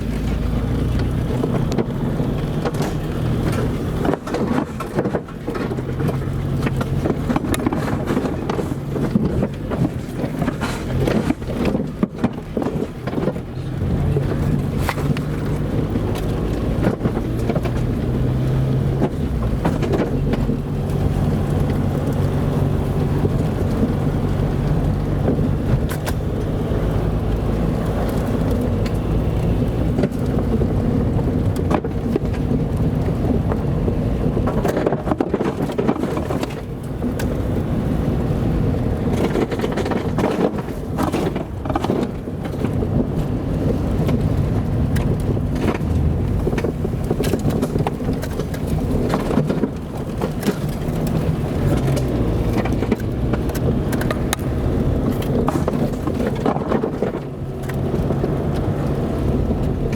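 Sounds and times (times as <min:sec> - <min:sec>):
car engine and tyre rumble: 0:00.0 - 0:59.9
knocks and clatter: 0:00.0 - 0:59.9.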